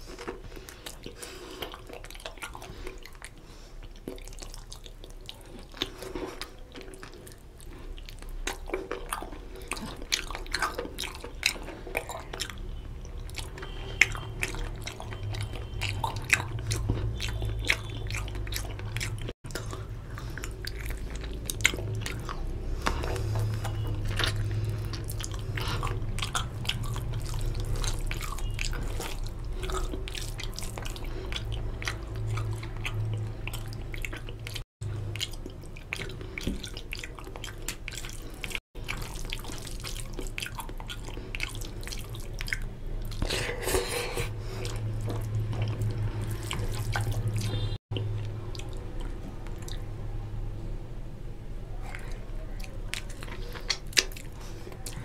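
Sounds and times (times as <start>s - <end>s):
chewing: 0.0s - 50.0s, 51.7s - 55.0s.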